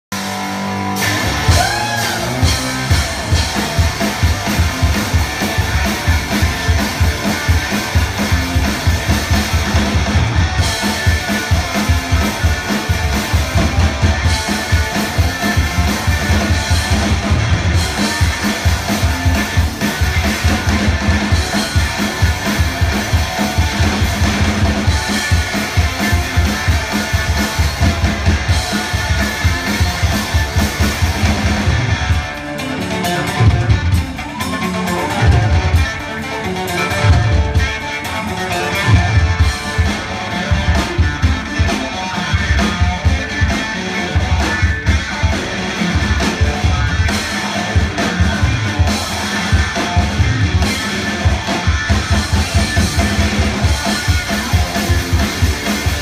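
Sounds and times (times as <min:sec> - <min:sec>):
loud electric guitar: 0:00.0 - 0:56.0
drum kit fast beat: 0:00.1 - 0:56.0.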